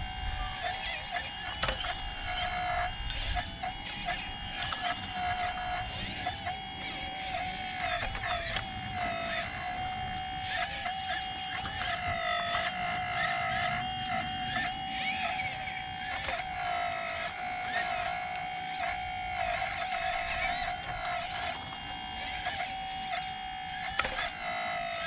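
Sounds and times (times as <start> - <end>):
hydraulic pump whine: 0.0 - 25.0.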